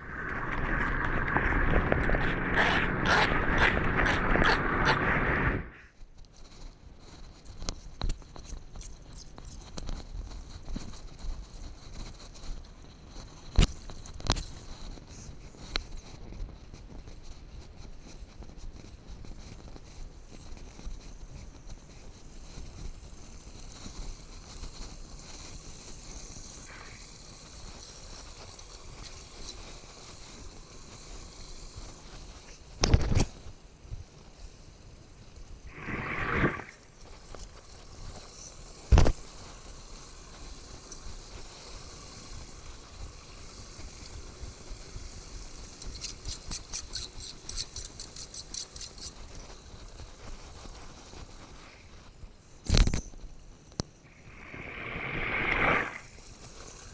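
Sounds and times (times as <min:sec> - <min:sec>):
wind rumbling on microphone: 0:00.0 - 0:47.7, 0:49.1 - 0:56.9.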